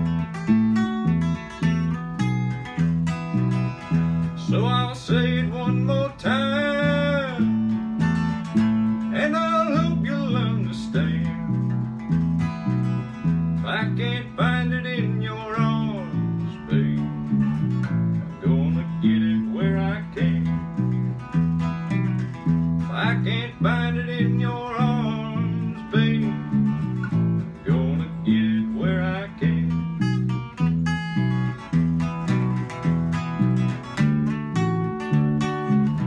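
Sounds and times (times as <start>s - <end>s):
acoustic guitar playing: 0.0s - 36.0s.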